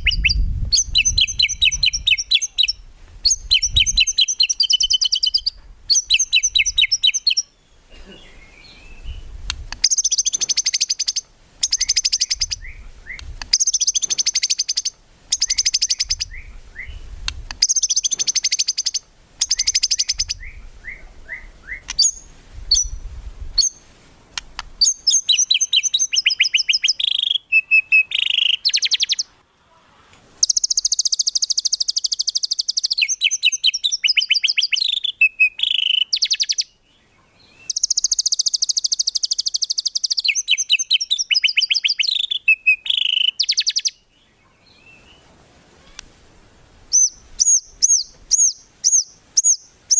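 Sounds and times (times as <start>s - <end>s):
songbird singing rapid trills: 0.0s - 23.8s, 24.8s - 29.3s, 30.4s - 45.3s, 46.9s - 49.8s.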